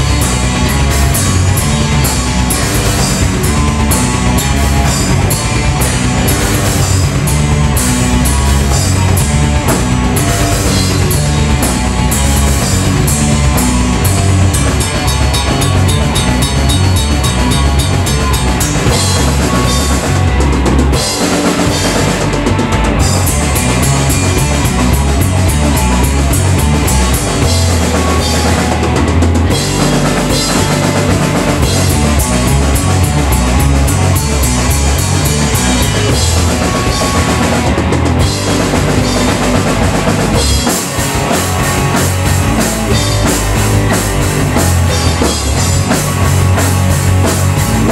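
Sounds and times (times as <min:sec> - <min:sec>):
amplified electric guitars: 0:00.0 - 0:47.9
live rock band playing: 0:00.0 - 0:47.9.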